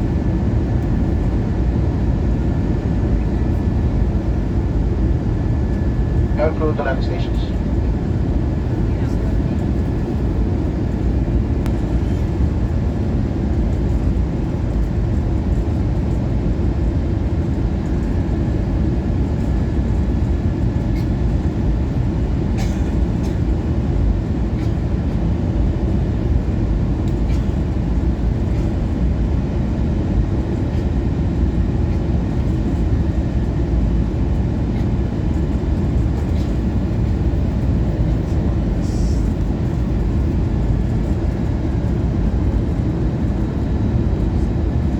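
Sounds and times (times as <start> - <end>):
aircraft cabin engine rumble: 0.0 - 44.9.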